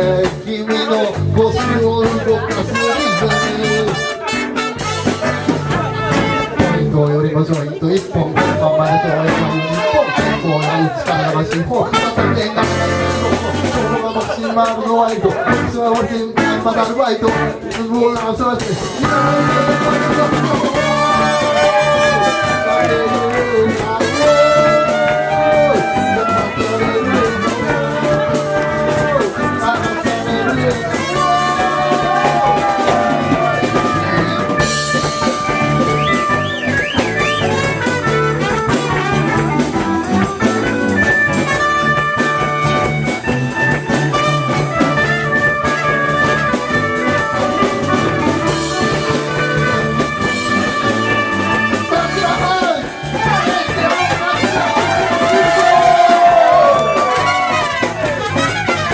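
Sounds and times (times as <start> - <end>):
live band playing instrumental: 0.0 - 58.9.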